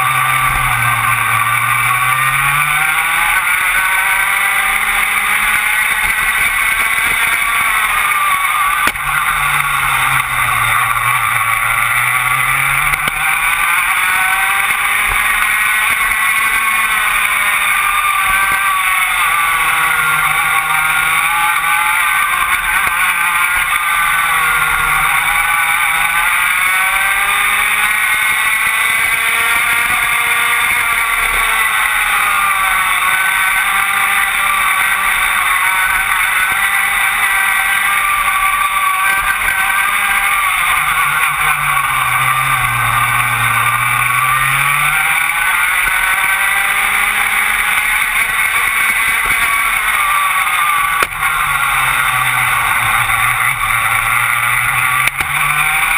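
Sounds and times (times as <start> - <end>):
kart engine racing: 0.0 - 55.9.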